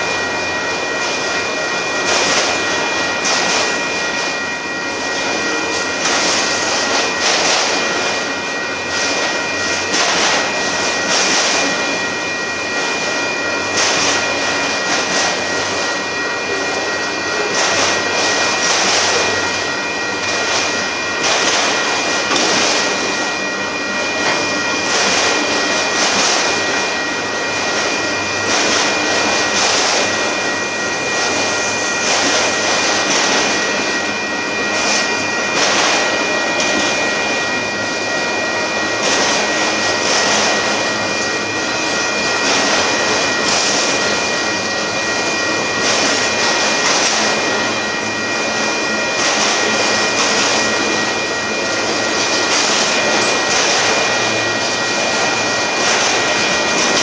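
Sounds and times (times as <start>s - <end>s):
rumble of steel wheels on rail: 0.0s - 57.0s
steady high-pitched tone: 0.0s - 57.0s.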